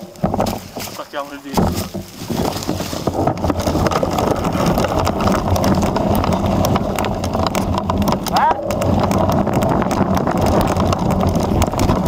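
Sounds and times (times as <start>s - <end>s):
bike frame and chain knocking: 0.0s - 12.0s
bike tyres rumbling on dirt: 0.0s - 12.0s.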